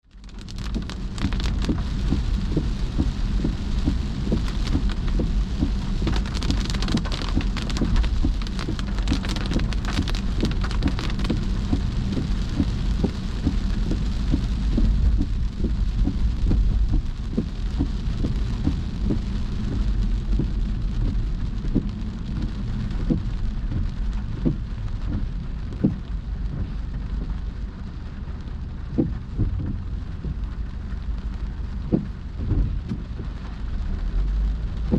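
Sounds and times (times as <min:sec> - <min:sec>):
heavy rain falling: 0:00.0 - 0:34.9
low rumble: 0:00.0 - 0:34.9.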